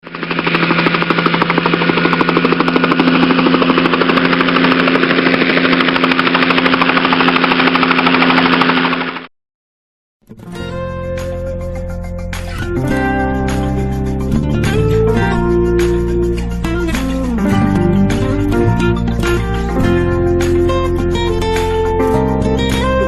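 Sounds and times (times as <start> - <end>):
helicopter rotor chopping: 0.0 - 9.3, 11.2 - 23.0.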